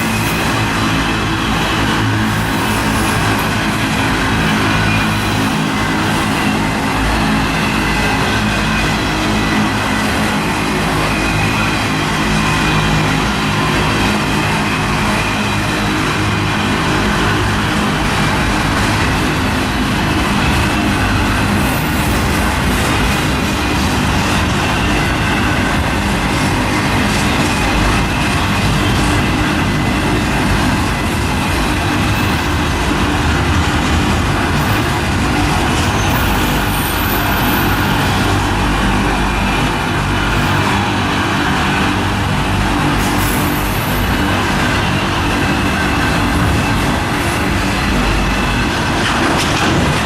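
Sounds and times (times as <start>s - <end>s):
freight train rumbling on rails: 0.0s - 50.0s.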